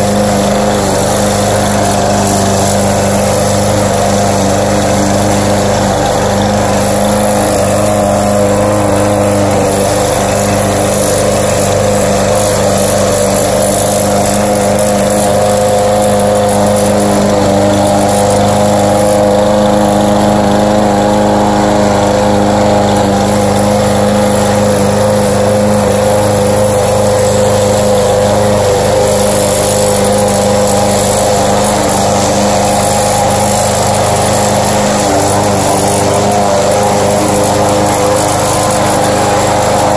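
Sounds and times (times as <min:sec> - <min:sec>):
lawn mower running: 0:00.0 - 0:39.9.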